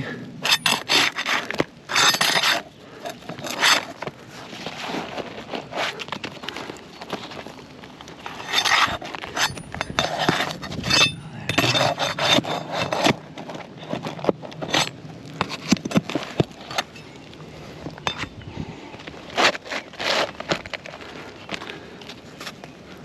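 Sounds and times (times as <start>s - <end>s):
metal tool scraping under shingles: 0.4s - 7.6s, 8.2s - 17.2s, 17.9s - 18.4s, 19.3s - 21.1s.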